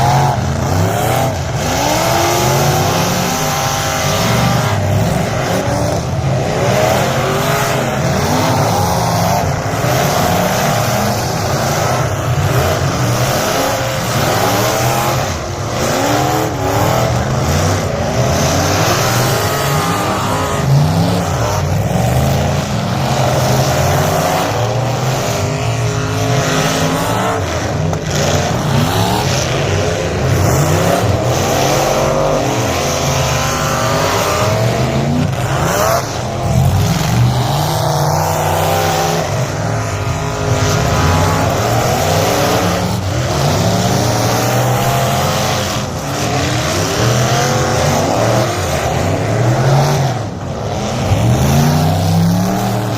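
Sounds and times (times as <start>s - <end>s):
race car engines revving: 0.0s - 52.9s.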